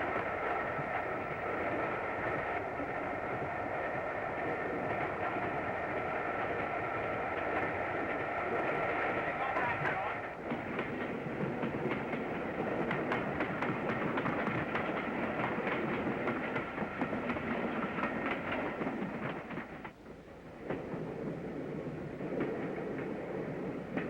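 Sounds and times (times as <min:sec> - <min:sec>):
steam train running at speed: 0:00.0 - 0:24.0
wheels clicking over rail joints: 0:00.0 - 0:24.0.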